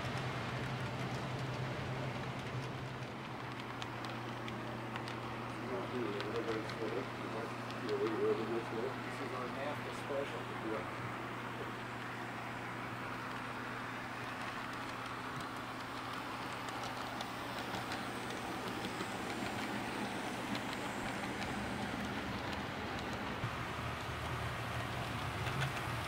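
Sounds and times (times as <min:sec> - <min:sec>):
model train motor hum: 0:00.0 - 0:26.0
model train wheels rattling: 0:00.0 - 0:26.0.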